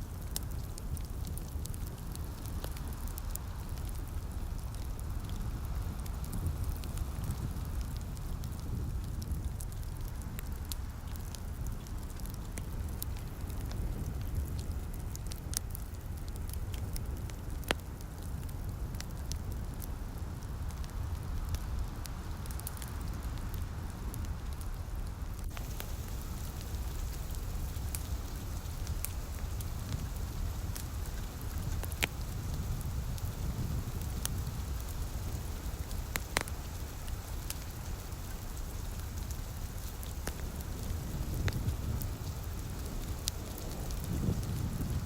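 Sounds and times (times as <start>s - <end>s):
light rain hiss: 0.0s - 45.0s
wood fire crackling: 0.0s - 45.0s.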